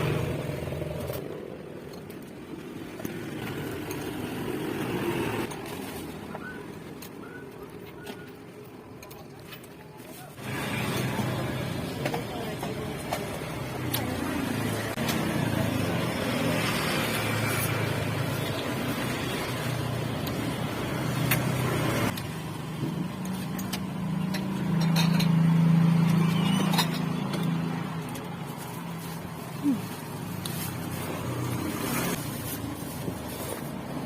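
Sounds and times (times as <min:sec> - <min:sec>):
vehicles passing on road: 0:00.0 - 0:34.0.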